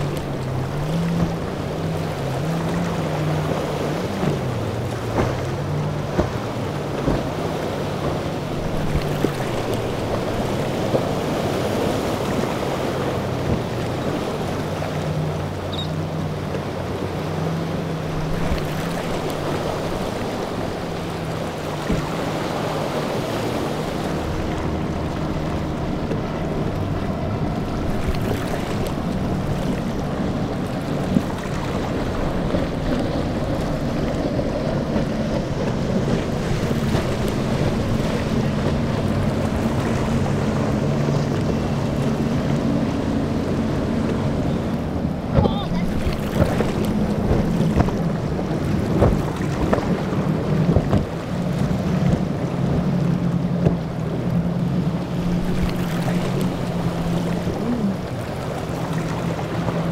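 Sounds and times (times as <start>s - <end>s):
boat engines droning: 0.0s - 59.9s
wake spray and breaking waves: 0.0s - 59.9s.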